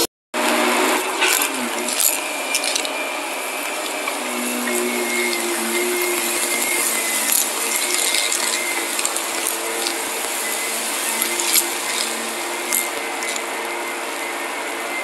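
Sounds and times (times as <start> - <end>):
vacuum cleaner running: 0.0 - 15.0
grit ticking in vacuum: 0.4 - 14.4.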